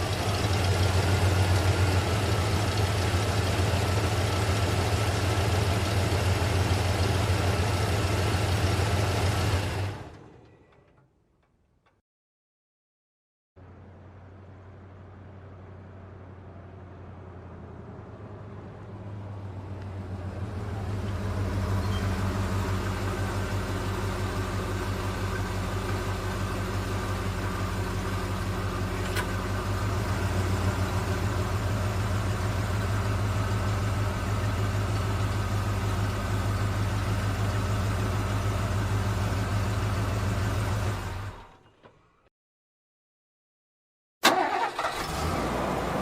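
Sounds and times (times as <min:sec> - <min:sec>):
engine running with low hum: 0:00.0 - 0:10.8, 0:13.6 - 0:42.2.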